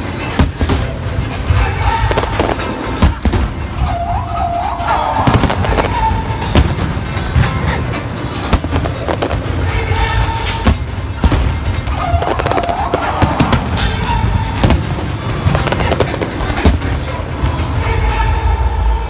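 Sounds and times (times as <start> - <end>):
fireworks bangs: 0.0 - 18.2.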